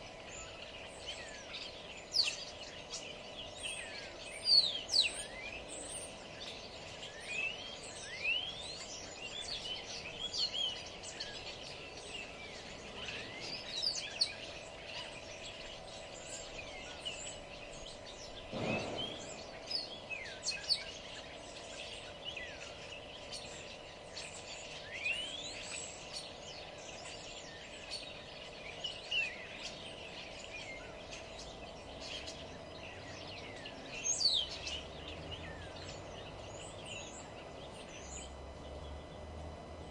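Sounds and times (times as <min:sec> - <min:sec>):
faint steady hum: 0:00.0 - 0:39.9
songbirds chirping and singing: 0:00.0 - 0:39.9.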